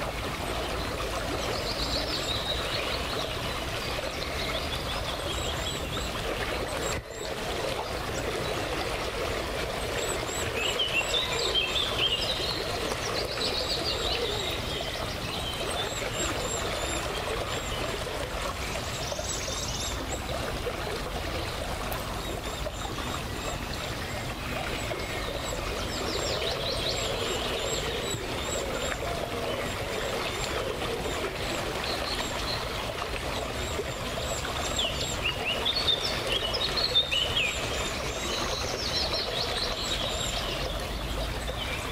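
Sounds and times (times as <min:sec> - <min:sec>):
river water trickling: 0:00.0 - 0:41.9
songbirds singing: 0:00.0 - 0:41.9.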